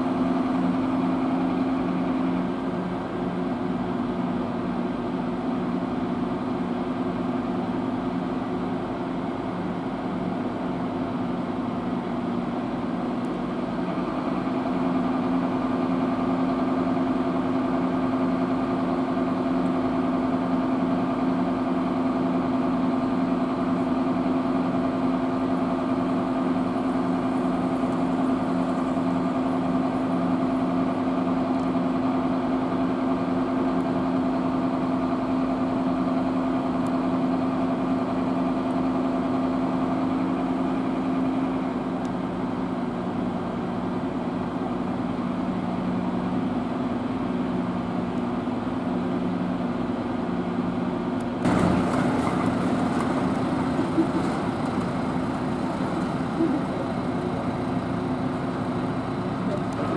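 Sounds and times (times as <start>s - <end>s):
diesel engines humming: 0.0s - 59.9s.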